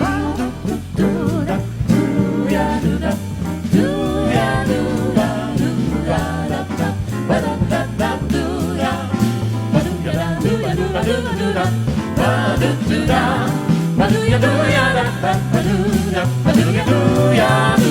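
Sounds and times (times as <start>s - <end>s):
swinging bass and drums: 0.0s - 17.9s
voices singing with vibrato: 0.0s - 17.9s.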